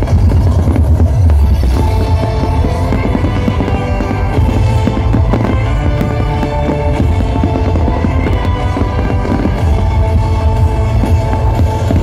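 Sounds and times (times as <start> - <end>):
fireworks bangs and crackles: 0.0 - 12.0
loud music with heavy bass: 0.0 - 12.0.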